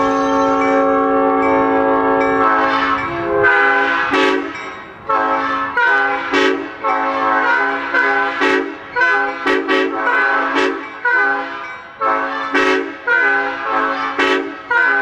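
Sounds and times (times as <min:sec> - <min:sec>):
air horn chord blasts: 0:00.1 - 0:15.0.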